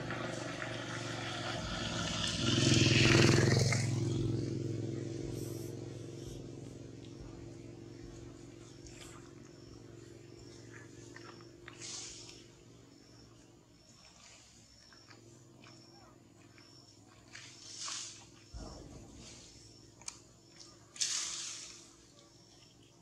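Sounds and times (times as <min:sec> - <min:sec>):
vehicle engine passing by: 0:00.0 - 0:21.9.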